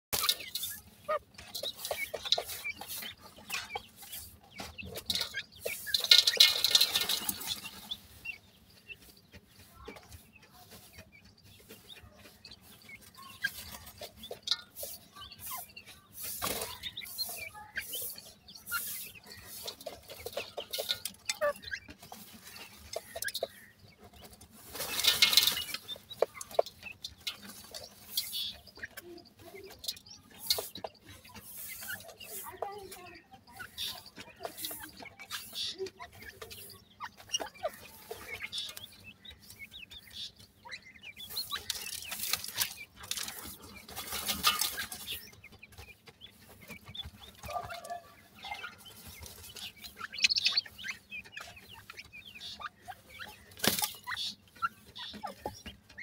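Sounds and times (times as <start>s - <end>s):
soft clucking calls: 0.1s - 56.0s
birds scratching in grit: 0.2s - 56.0s.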